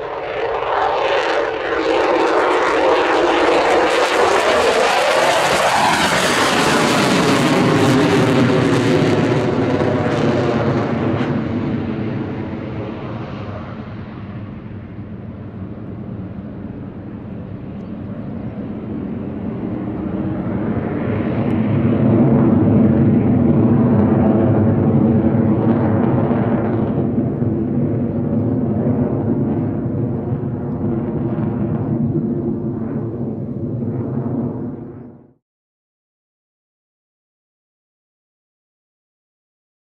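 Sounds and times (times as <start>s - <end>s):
fighter jet engines roaring: 0.0s - 35.4s.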